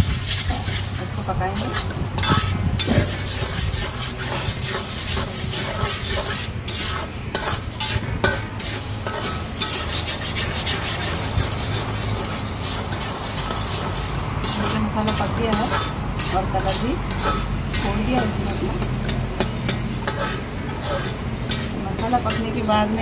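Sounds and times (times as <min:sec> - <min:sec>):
paste hissing while cooking: 0:00.0 - 0:22.7
metal spatula scraping a pan: 0:00.0 - 0:23.0.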